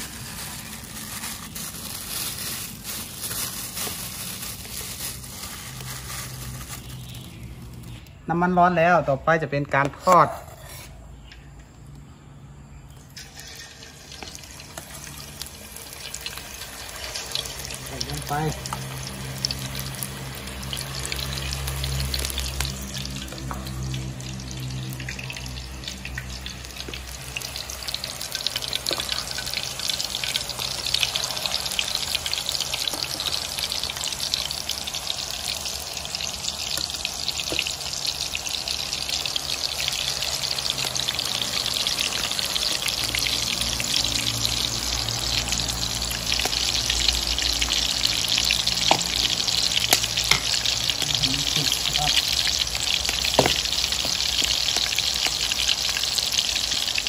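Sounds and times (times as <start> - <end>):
meat sizzling in hot oil: 0.0 - 8.0, 13.2 - 57.0.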